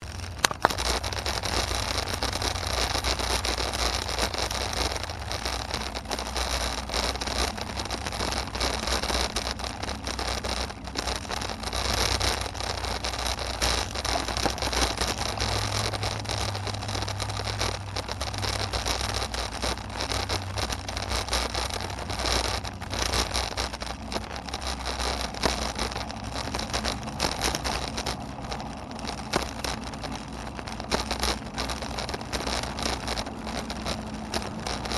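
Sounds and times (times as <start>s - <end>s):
road traffic noise: 0.0s - 34.9s.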